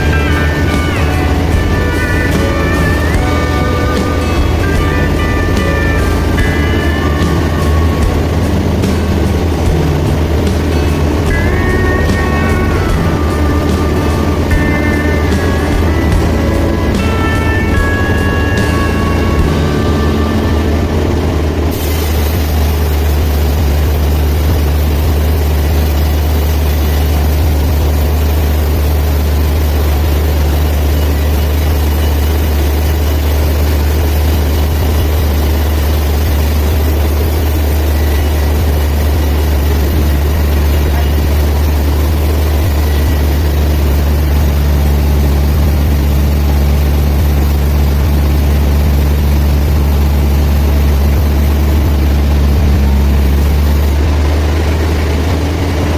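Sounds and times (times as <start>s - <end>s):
sawmill machinery humming: 0.0s - 55.9s.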